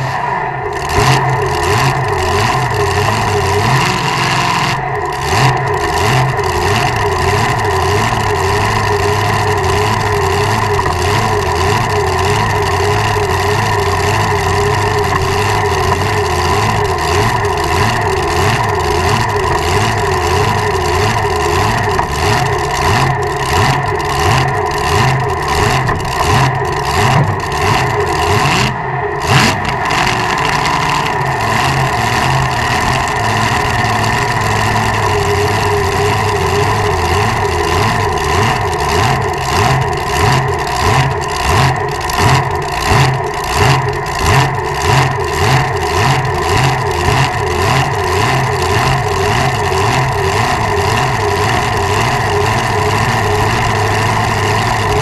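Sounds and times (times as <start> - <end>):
dragster engine idling loudly: 0.0 - 55.0.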